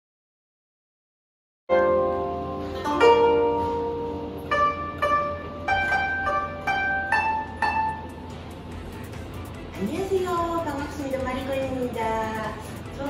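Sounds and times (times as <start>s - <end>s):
plucked zither melody: 1.7s - 13.0s.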